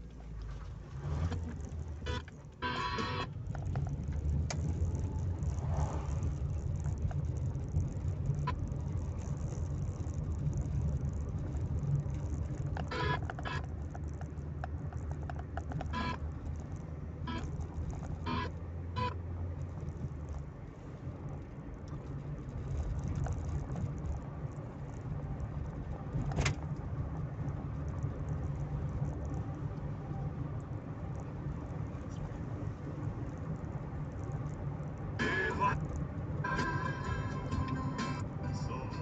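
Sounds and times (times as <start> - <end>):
car engine humming: 0.0 - 39.0.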